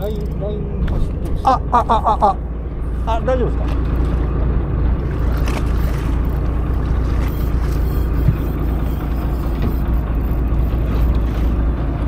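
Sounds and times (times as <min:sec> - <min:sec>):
outboard motor running: 0:00.0 - 0:12.0
water noise: 0:00.0 - 0:12.0.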